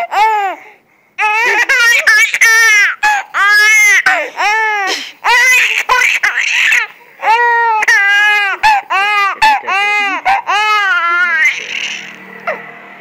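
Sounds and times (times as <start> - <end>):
infant laughing: 1.2 - 12.6.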